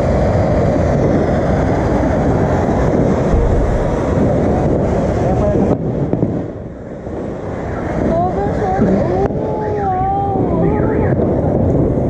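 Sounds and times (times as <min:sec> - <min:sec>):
fountain fireworks rushing: 0:00.0 - 0:12.0.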